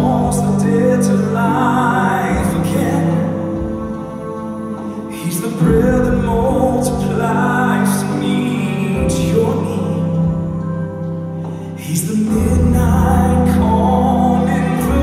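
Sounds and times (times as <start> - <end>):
male vocal quartet singing: 0.0 - 10.9, 11.6 - 15.0
instrumental accompaniment: 0.0 - 15.0.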